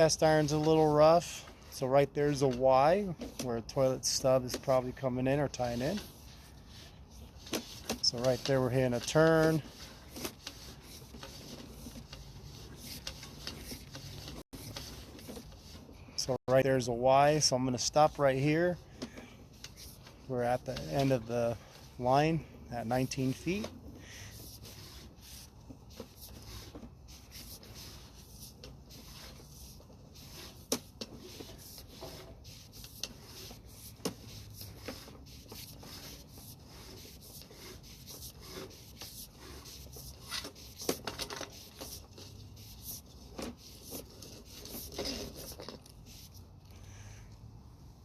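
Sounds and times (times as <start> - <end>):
cable rubbing and scraping: 0.0 - 46.5.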